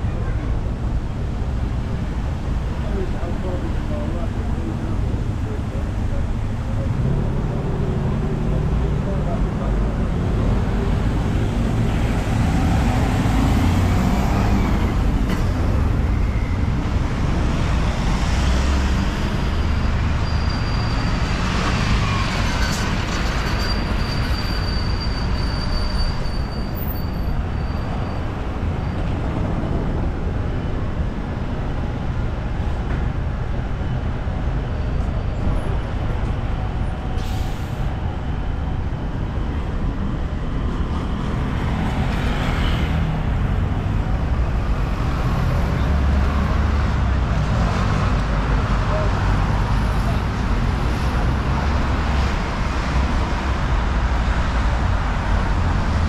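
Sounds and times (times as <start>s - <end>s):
vehicles passing with engine rumble: 0.0s - 56.0s.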